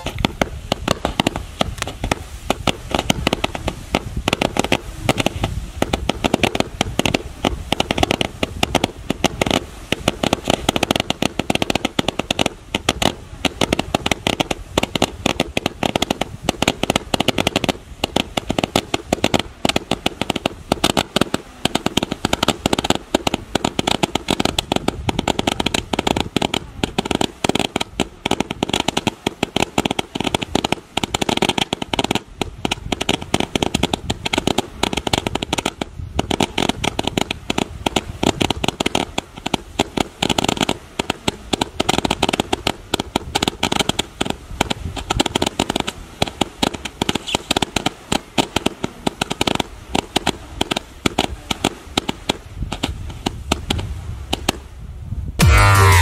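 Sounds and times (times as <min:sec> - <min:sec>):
firework barrage rapid pops: 0:00.0 - 0:54.7.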